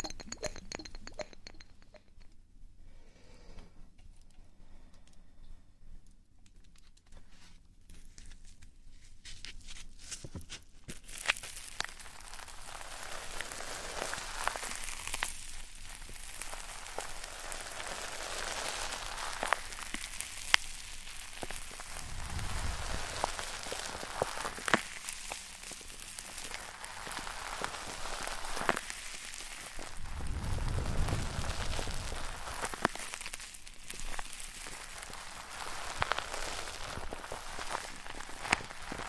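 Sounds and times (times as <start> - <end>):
crackle and rustle: 6.0 - 39.0.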